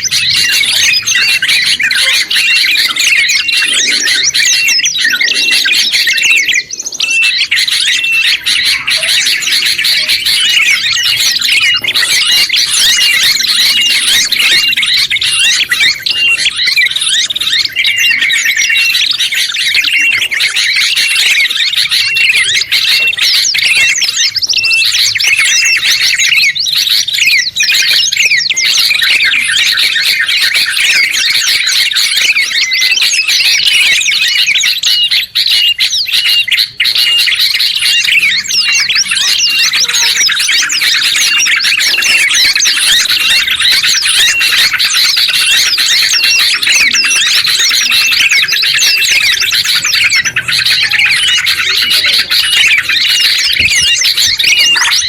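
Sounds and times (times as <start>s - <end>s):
songbird calls: 0.0s - 55.0s.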